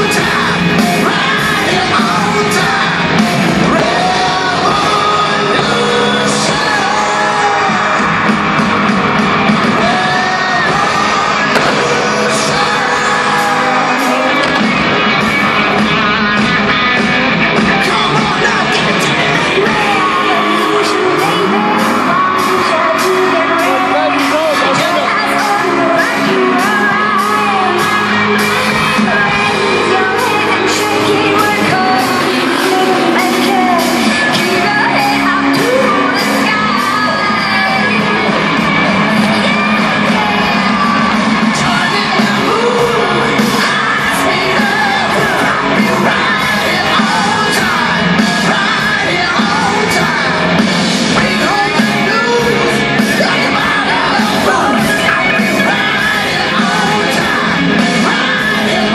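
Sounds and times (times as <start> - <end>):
live pop music over loudspeakers: 0.0 - 58.9
person singing: 0.0 - 58.9.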